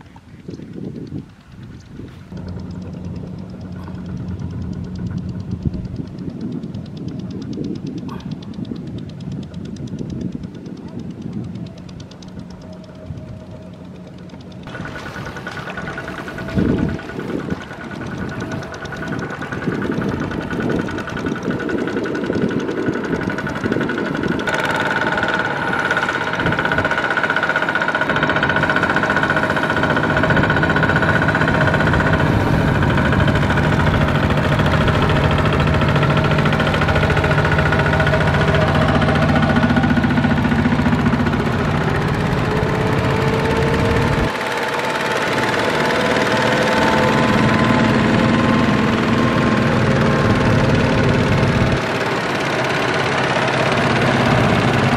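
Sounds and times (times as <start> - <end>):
diesel engines chugging under load: 0.0 - 54.9.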